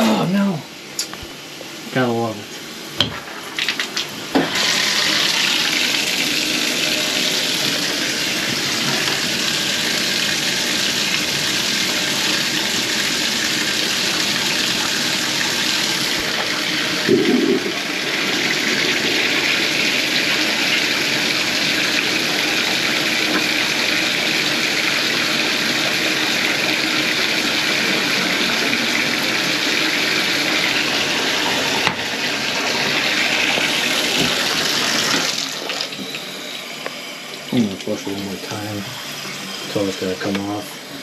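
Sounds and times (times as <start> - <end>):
toilet tank refilling: 1.4 - 41.0.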